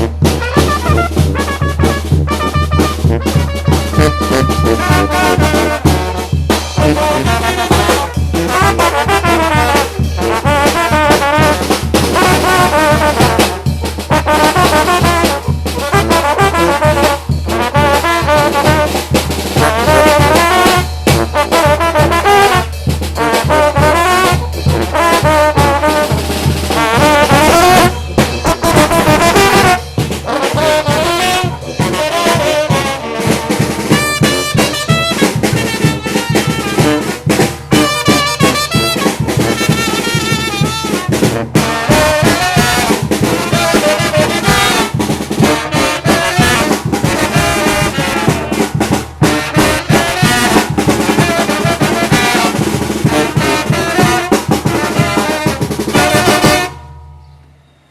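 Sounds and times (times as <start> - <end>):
drums keeping a steady beat: 0.0 - 57.1
trumpets and trombones: 0.0 - 57.2.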